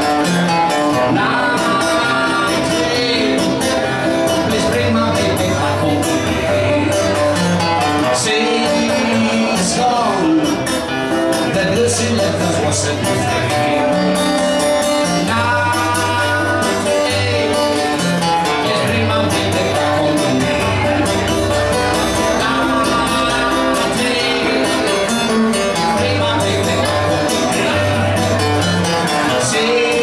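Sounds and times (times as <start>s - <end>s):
acoustic guitar: 0.0s - 30.0s
man singing: 0.0s - 30.0s.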